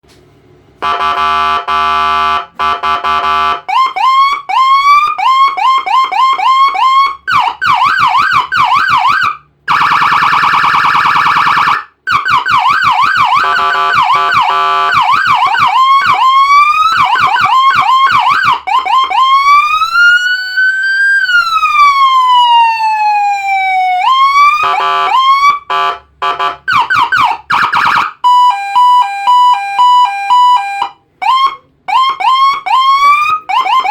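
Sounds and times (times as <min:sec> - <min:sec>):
electronic police siren: 0:00.8 - 0:33.9.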